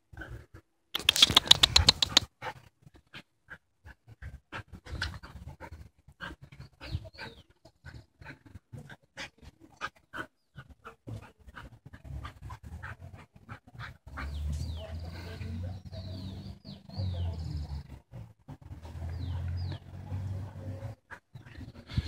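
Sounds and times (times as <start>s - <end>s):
dogs panting and snuffling: 0.1s - 22.0s.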